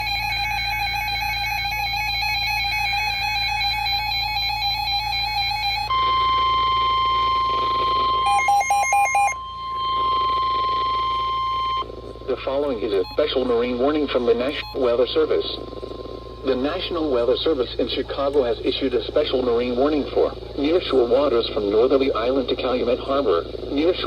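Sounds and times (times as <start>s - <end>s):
pulsing beeps: 0.0s - 21.6s
steady warning tone: 0.0s - 24.0s
warbling electronic alarm: 0.0s - 24.0s.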